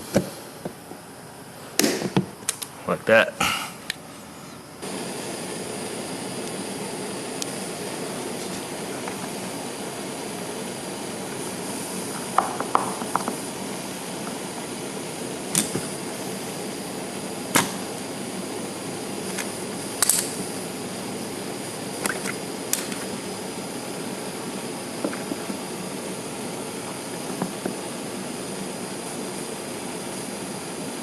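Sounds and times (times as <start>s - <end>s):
propane torch hissing: 0.0s - 31.0s.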